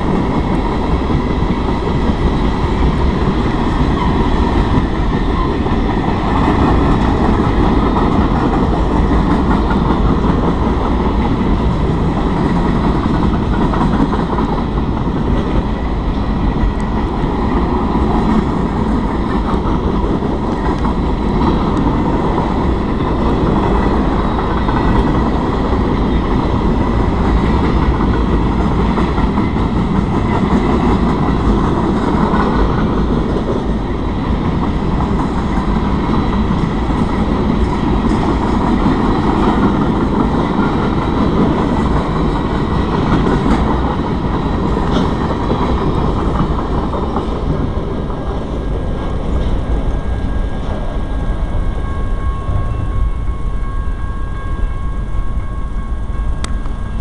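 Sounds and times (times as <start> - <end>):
train wheels rumbling over rails: 0.0 - 57.0.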